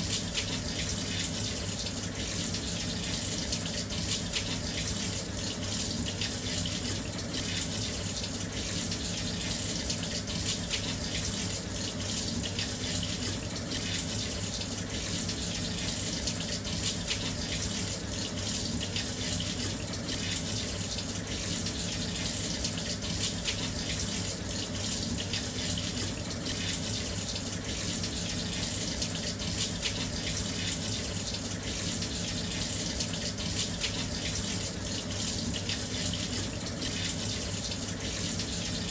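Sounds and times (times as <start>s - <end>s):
washing machine filling with water: 0.0s - 38.9s.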